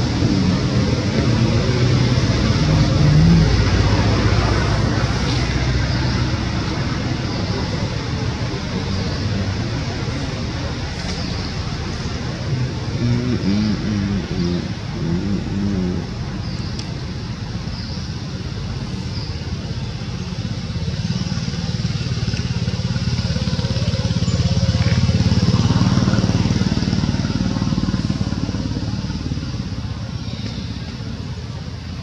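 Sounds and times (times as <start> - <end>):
motorbike engine at low revs: 0.0 - 32.0.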